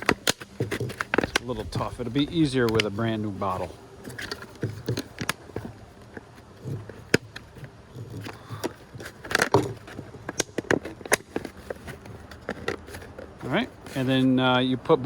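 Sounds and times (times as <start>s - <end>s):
plastic clicks and crackles: 0.0s - 1.8s, 3.6s - 14.0s.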